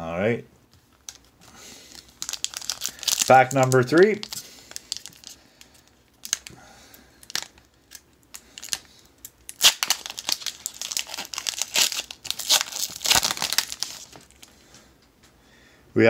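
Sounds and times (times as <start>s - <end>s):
foil wrapper crinkling: 0.9s - 14.6s.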